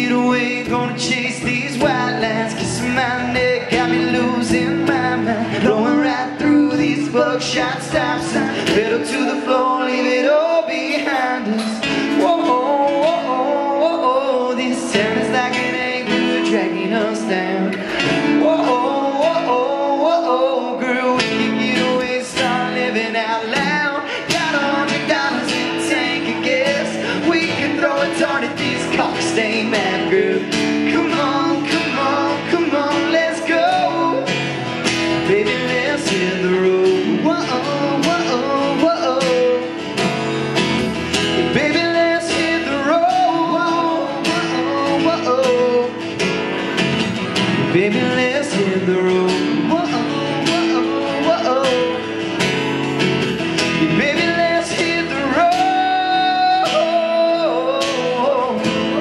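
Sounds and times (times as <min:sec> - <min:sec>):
men singing: 0:00.0 - 0:39.8, 0:41.3 - 0:46.1, 0:47.6 - 0:52.7, 0:53.6 - 0:59.0
acoustic guitars strumming: 0:00.0 - 0:59.0.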